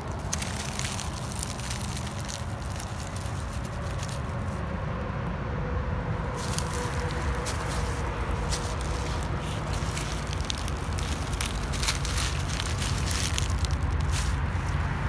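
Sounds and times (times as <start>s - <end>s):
dry leaves crackling: 0.0s - 4.8s, 6.1s - 15.0s.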